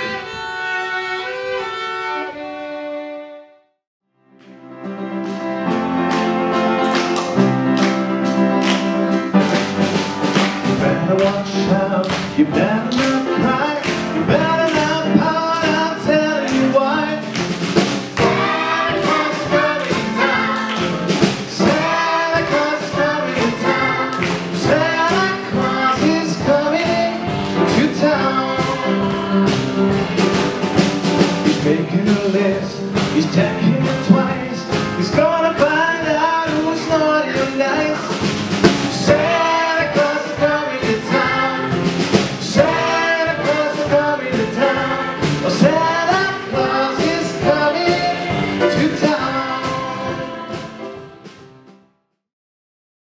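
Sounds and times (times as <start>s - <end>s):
song with singing and drums: 6.8s - 51.4s.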